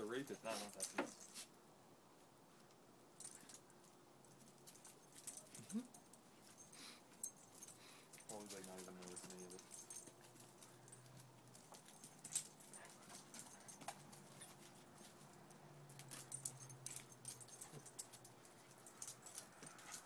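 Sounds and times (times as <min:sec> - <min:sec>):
collar tags jingling: 0:00.0 - 0:01.6, 0:03.2 - 0:20.0.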